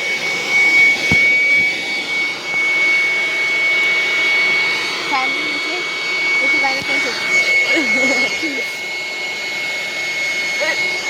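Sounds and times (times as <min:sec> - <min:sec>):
electric air pump whining: 0:00.0 - 0:11.0.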